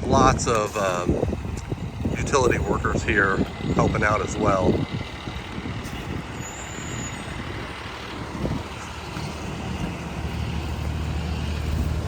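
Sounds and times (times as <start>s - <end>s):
outdoor noise: 0.0s - 12.0s
truck engine running: 0.0s - 12.0s.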